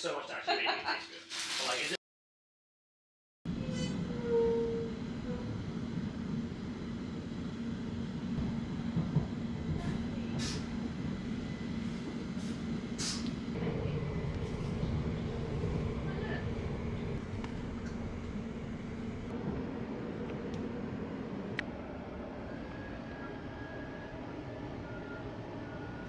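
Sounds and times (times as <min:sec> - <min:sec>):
train rumbling from inside: 0:03.5 - 0:26.0.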